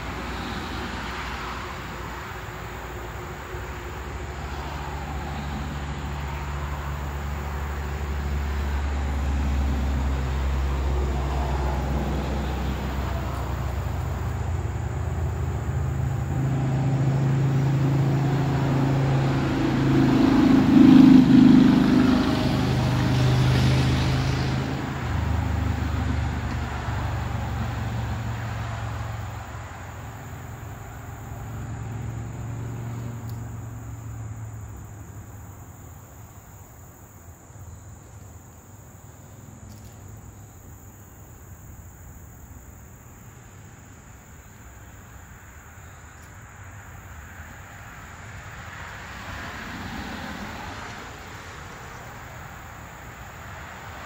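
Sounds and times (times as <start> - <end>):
distant traffic hum: 0.0 - 54.0.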